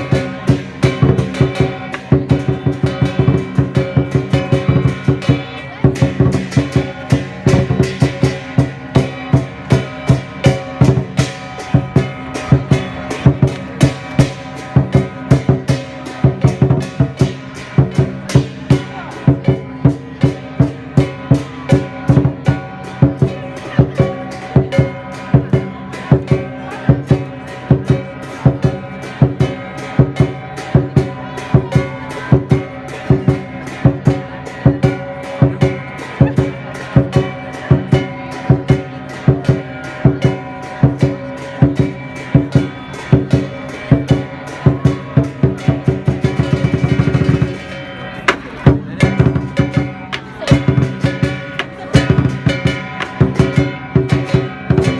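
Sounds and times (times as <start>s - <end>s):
clashing cymbals: 0.0s - 54.9s
large drum beating: 0.0s - 54.9s
ringing gong: 0.0s - 54.9s.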